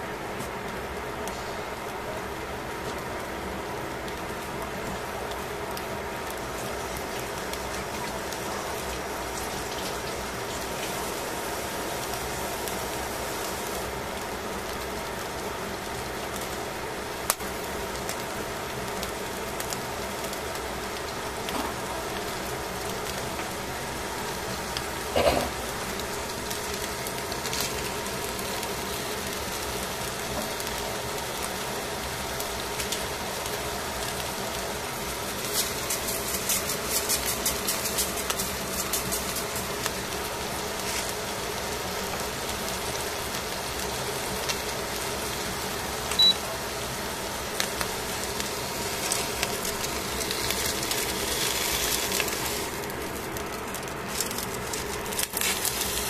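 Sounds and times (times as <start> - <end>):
fish sizzling in a pan: 0.0 - 56.0.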